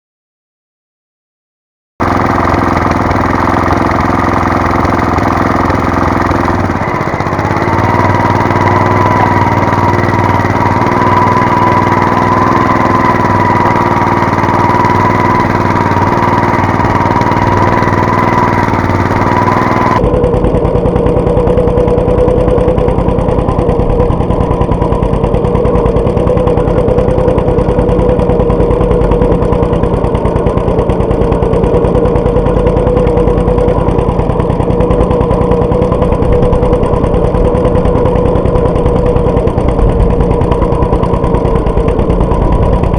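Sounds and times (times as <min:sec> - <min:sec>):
steady whining tone: 0:02.0 - 0:42.9
tractor engine running: 0:02.0 - 0:42.9.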